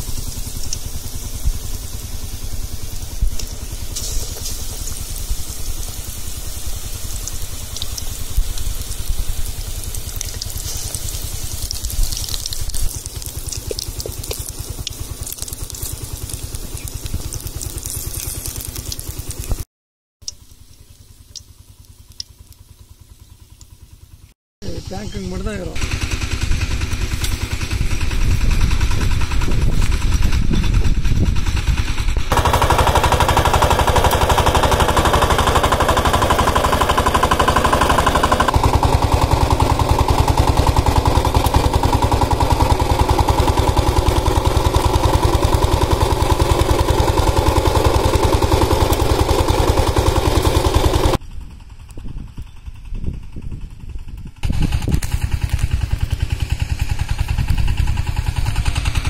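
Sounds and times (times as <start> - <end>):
diesel tiller engine chugging: 0.0 - 19.5, 20.6 - 59.0.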